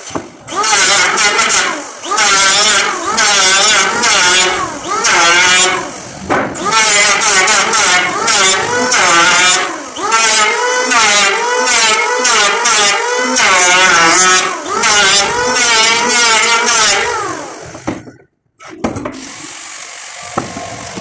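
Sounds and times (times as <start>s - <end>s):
electric planer shaving wood: 0.0s - 18.0s, 18.6s - 21.0s.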